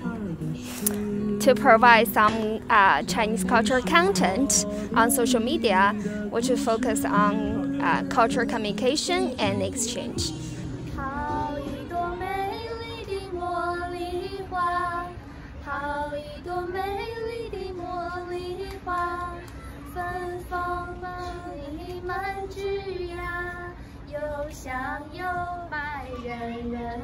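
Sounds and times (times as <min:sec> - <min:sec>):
woman singing: 0:00.0 - 0:19.4, 0:20.0 - 0:27.0.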